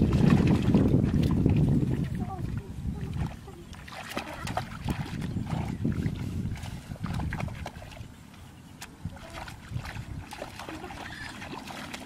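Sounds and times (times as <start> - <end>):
muddy water splashing and sloshing: 0.0 - 12.0.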